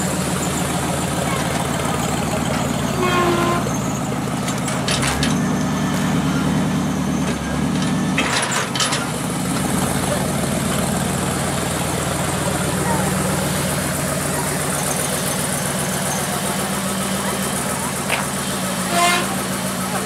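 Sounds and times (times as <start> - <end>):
engine clatter: 0.0 - 20.0
truck engine idling: 0.0 - 20.0.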